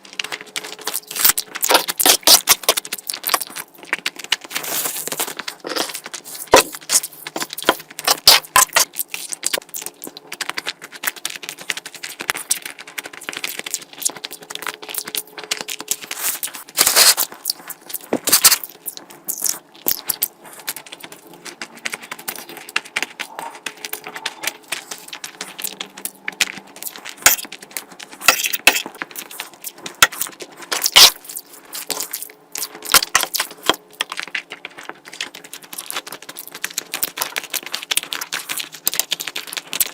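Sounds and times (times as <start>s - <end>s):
chewing and mouth smacks: 0.3s - 39.9s.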